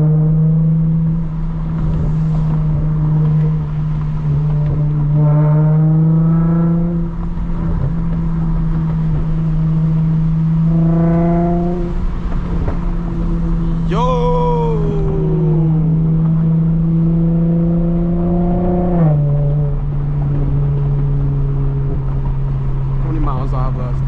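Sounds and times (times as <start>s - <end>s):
car exhaust droning: 0.0s - 23.0s.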